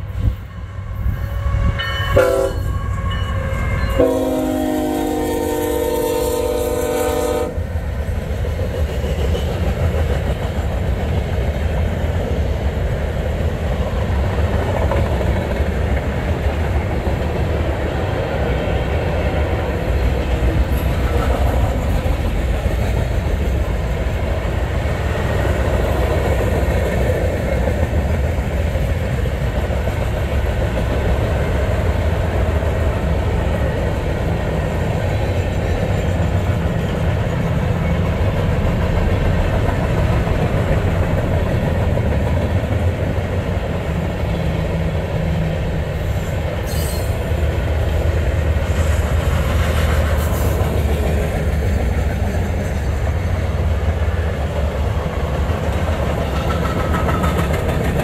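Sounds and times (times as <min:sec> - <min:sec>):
freight train rumbling past: 0:00.0 - 0:58.0
wheels on rails: 0:05.1 - 0:58.0.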